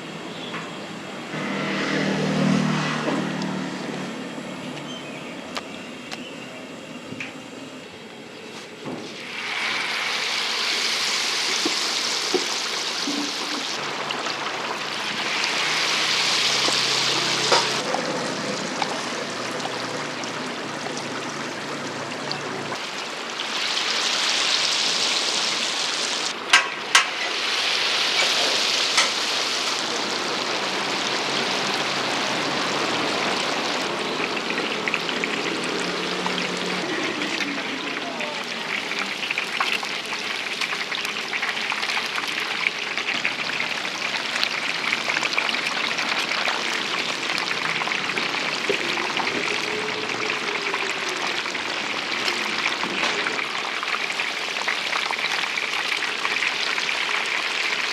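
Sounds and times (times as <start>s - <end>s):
hot oil sizzling in a fryer: 0.0s - 5.0s, 6.2s - 57.9s.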